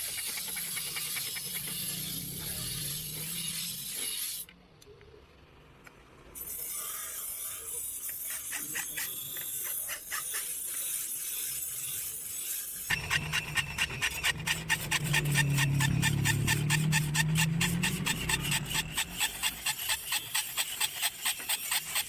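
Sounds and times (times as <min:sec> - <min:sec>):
metal scraping: 0:00.0 - 0:04.5, 0:06.4 - 0:22.0.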